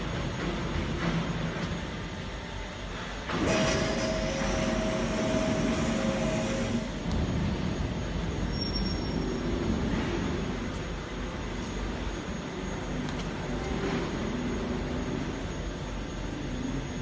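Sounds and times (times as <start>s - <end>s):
industrial machinery rumbling: 0.0s - 17.0s
thin steady whine: 0.0s - 17.0s.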